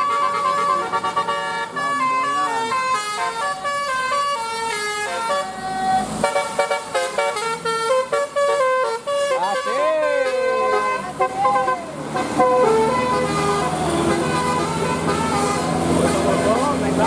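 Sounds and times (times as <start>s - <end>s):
bus musical horn playing tune: 0.0s - 17.0s.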